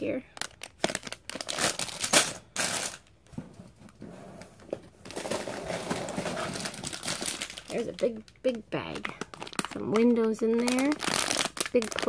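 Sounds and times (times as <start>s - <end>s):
plastic bag crinkling: 0.1s - 3.2s, 5.0s - 12.0s.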